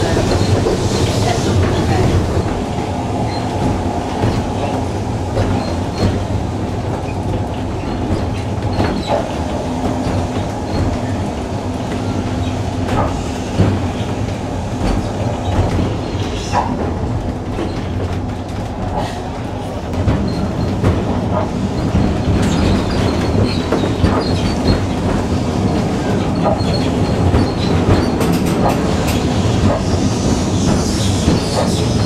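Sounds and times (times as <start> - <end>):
tram wheels rumbling on rail: 0.0 - 32.0.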